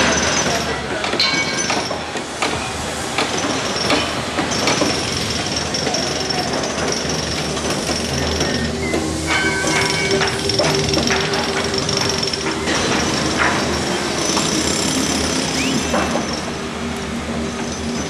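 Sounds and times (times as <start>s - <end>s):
construction machinery din: 0.0s - 18.0s.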